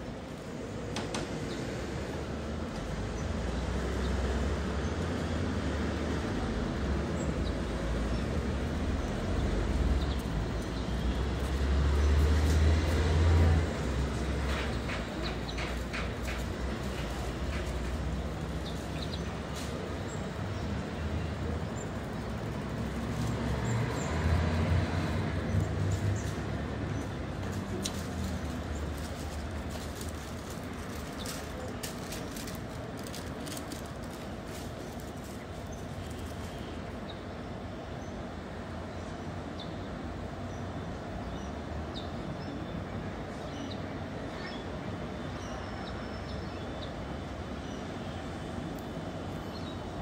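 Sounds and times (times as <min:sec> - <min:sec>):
distant diesel locomotive rumble: 0:00.0 - 0:50.0.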